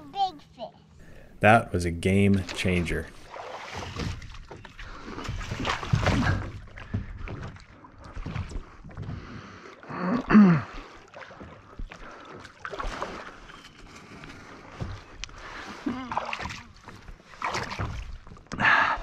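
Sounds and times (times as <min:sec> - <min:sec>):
paddle splashing water: 0:01.9 - 0:19.0.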